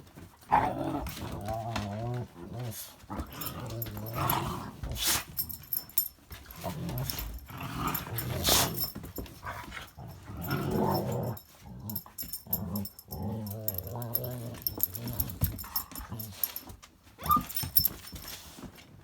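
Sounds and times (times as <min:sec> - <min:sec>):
dogs play-growling: 0:00.4 - 0:18.4.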